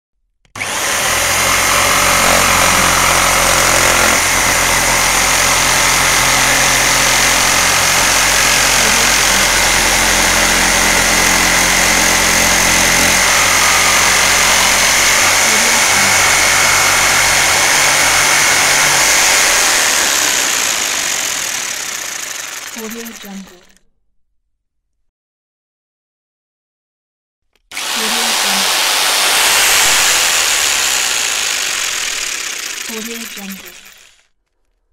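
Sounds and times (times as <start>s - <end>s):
electric jigsaw sawing wood: 0.5s - 23.8s, 27.6s - 34.5s.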